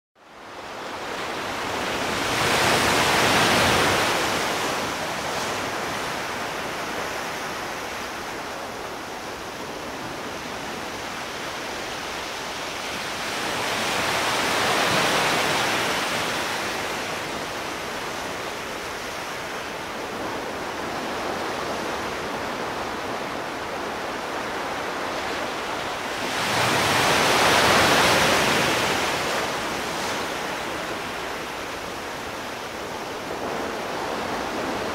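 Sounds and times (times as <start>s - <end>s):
waves breaking: 0.6s - 34.9s.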